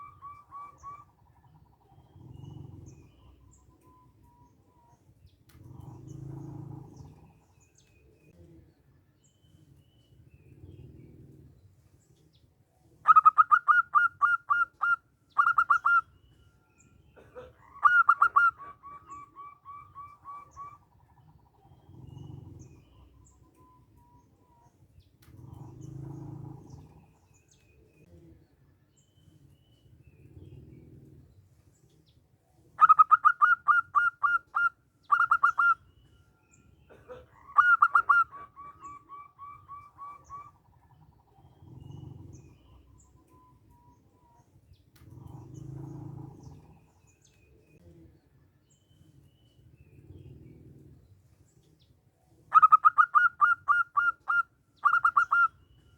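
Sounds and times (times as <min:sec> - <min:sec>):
dove cooing song: 0:00.0 - 0:55.9.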